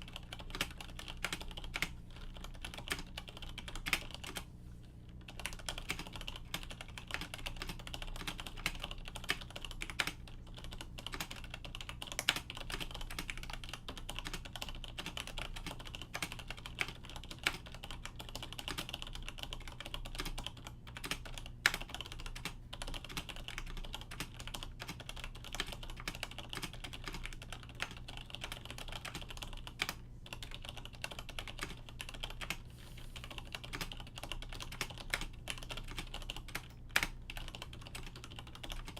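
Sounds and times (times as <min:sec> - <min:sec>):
keyboard typing clacks: 0:00.0 - 0:04.4, 0:05.1 - 0:32.6, 0:33.2 - 0:38.9
faint low hum: 0:00.0 - 0:38.9.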